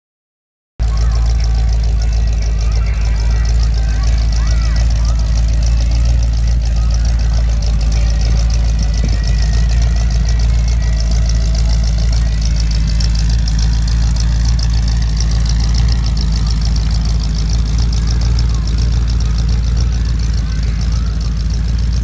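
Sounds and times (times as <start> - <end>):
car engine idling: 0.8 - 22.0.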